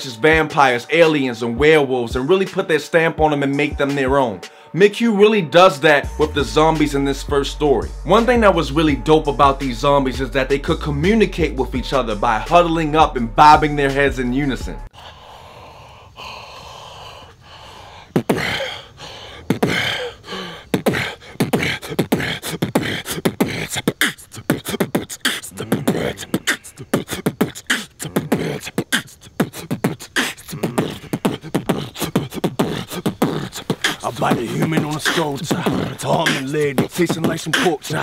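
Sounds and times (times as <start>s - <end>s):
man beatboxing: 0.0s - 4.6s, 5.2s - 14.9s, 18.0s - 38.0s.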